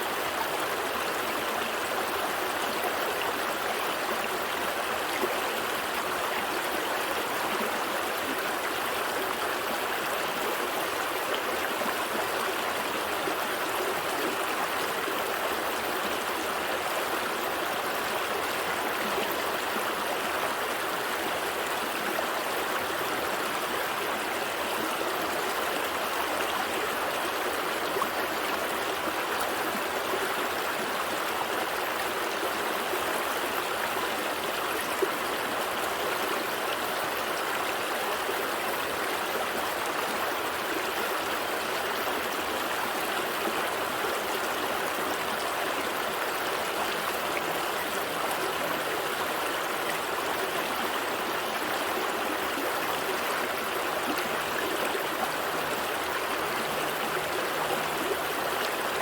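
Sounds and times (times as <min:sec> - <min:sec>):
stream gurgling over rocks: 0:00.0 - 0:59.0.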